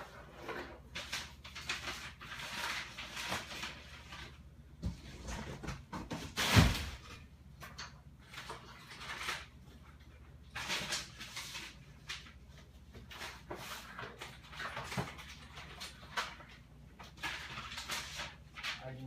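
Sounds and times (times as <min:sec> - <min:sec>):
rummaging rustling and clattering: 0:00.0 - 0:19.0.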